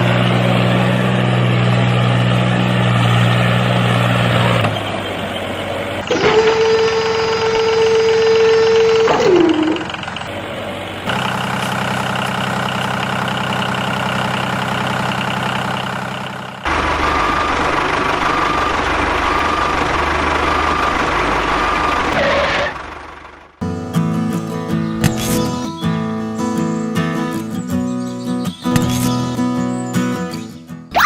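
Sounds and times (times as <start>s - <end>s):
engine running: 0.0s - 30.4s.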